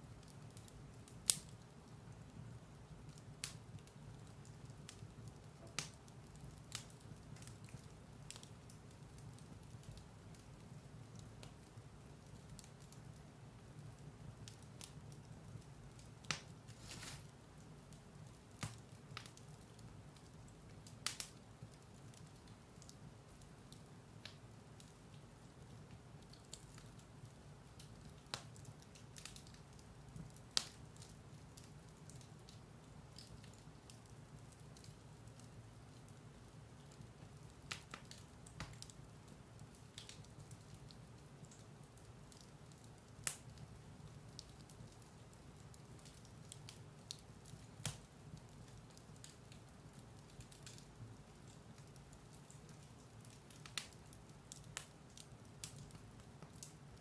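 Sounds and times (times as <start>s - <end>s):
faint low rumble of flames: 0.0s - 57.0s
firewood crackling and popping: 0.0s - 57.0s.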